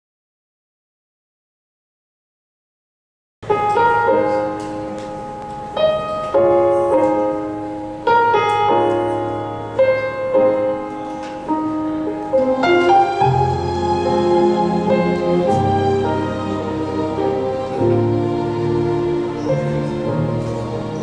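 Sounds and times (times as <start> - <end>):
slow piano chords: 3.4 - 21.0.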